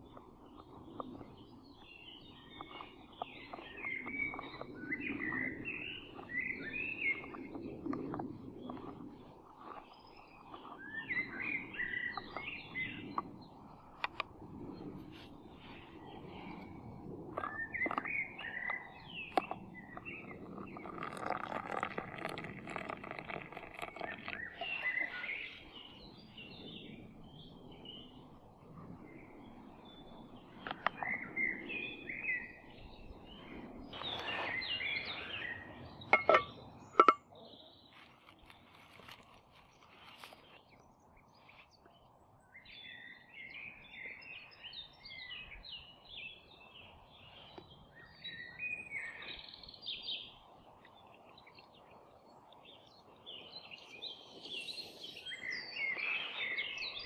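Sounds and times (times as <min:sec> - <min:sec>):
birds chirping and singing: 0:00.5 - 0:13.9, 0:17.4 - 0:28.2, 0:29.4 - 0:39.2, 0:39.9 - 0:57.0.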